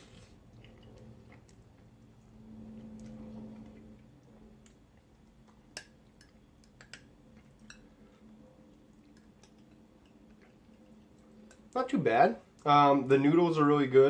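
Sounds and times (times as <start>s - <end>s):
quiet chewing: 0.0s - 11.8s.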